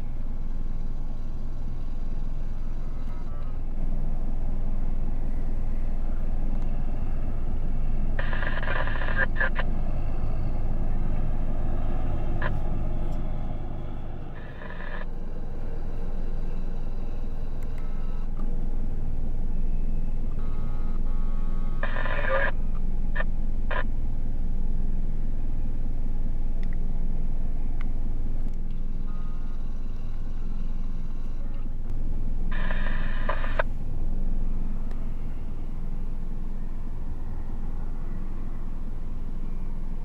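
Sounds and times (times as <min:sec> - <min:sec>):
truck engine driving by: 0:00.0 - 0:40.0.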